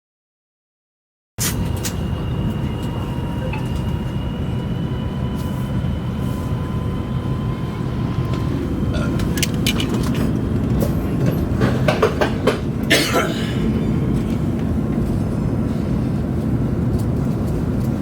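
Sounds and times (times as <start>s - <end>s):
train cabin rumble: 1.4s - 18.0s.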